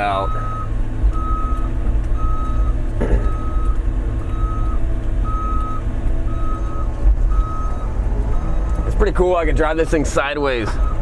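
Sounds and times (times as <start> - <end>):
excavator travel alarm beeping: 0.0 - 9.2, 10.6 - 11.0
diesel engine drone: 0.0 - 11.0.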